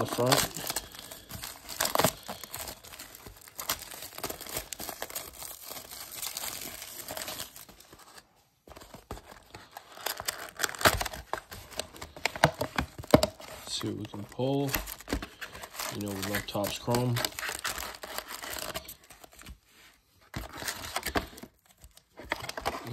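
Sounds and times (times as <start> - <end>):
plastic wrap crinkling and tearing: 0.0 - 19.7, 20.3 - 22.9
cardboard box opening crackles: 0.0 - 22.9.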